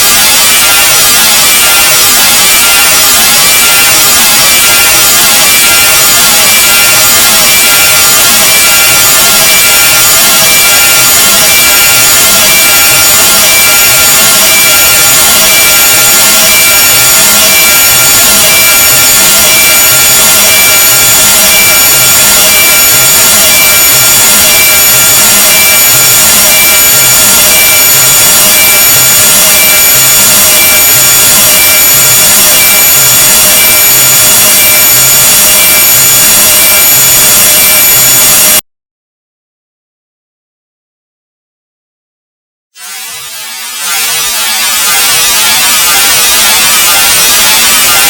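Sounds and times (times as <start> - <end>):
harsh hiss with shrill tones: 0.0 - 38.6, 42.8 - 48.0.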